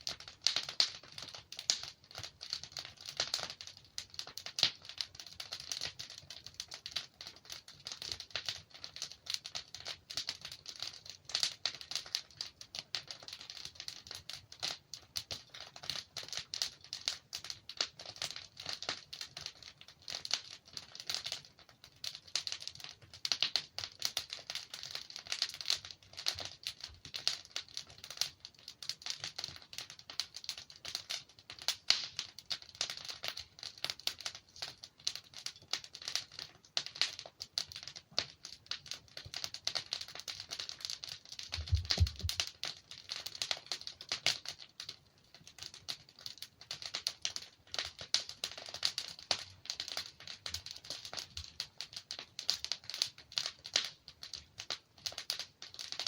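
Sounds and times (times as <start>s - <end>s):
logs crackling in fireplace: 0.0s - 56.0s.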